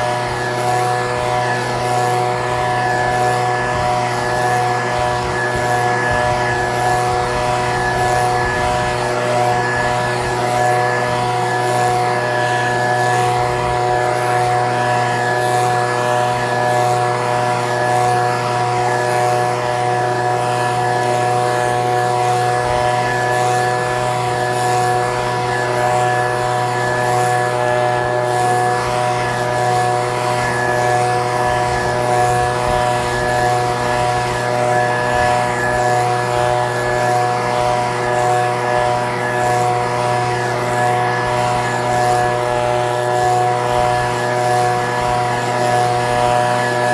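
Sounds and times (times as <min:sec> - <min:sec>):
leaf blower engine running: 0:00.0 - 0:46.9.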